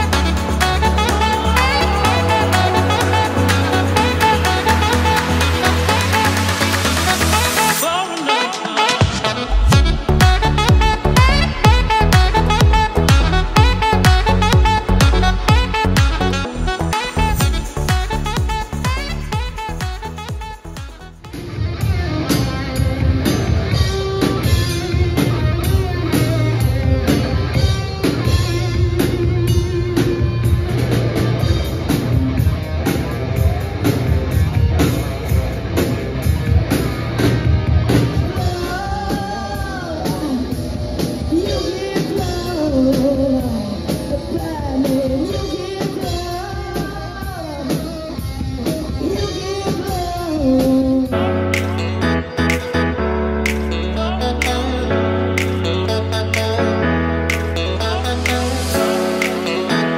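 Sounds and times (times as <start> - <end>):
sliding guitar lead line: 0.0 - 39.4, 51.1 - 59.9
rock band playing: 0.0 - 59.9.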